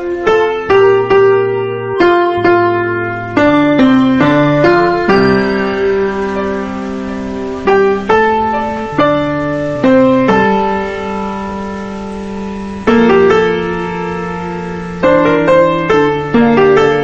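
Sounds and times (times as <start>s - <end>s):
calm piano chords: 0.0s - 17.0s.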